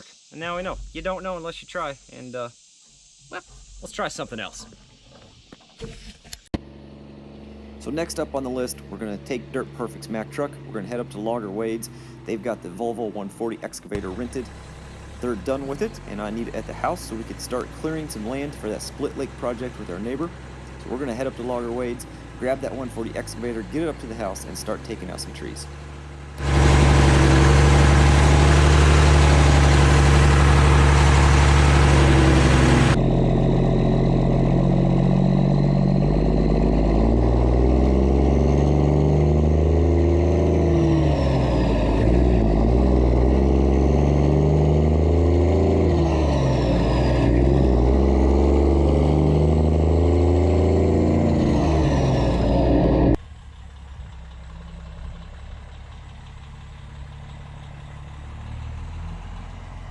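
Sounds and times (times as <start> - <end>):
heavy truck engine accelerating: 6.6 - 59.9.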